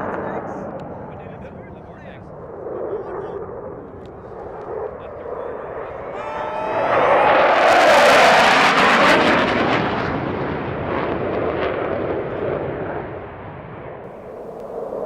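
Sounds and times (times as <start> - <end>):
fighter jet roaring past: 0.0 - 15.0.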